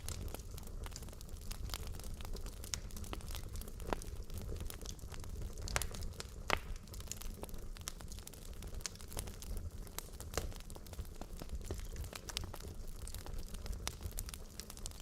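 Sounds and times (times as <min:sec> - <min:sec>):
flames rumbling: 0:00.0 - 0:15.0
logs crackling and popping: 0:00.0 - 0:15.0
loud fire snaps: 0:00.0 - 0:15.0.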